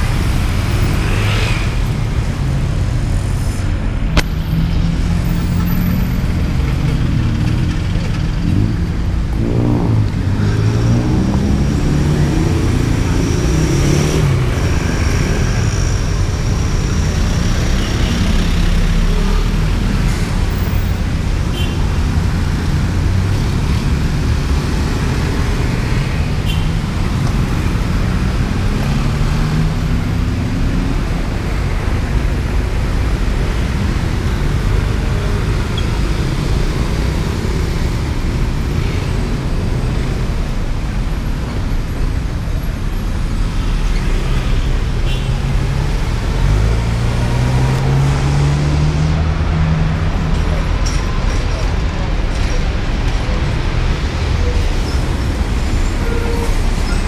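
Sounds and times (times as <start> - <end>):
traffic driving past: 0.0 - 57.0.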